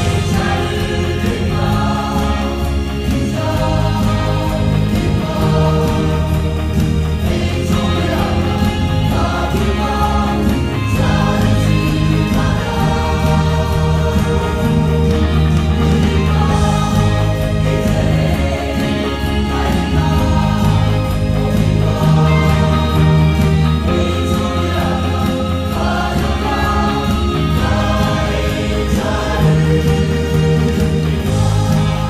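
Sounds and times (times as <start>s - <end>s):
mixed choir singing gospel: 0.0s - 32.0s.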